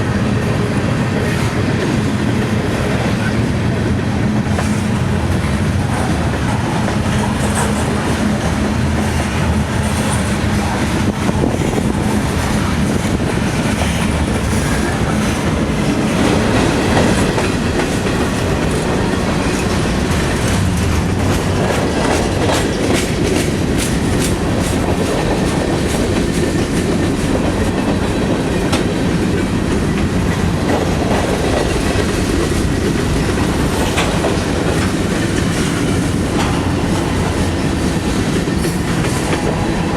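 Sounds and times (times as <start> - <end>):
train wheels clicking over rails: 0.0 - 39.9.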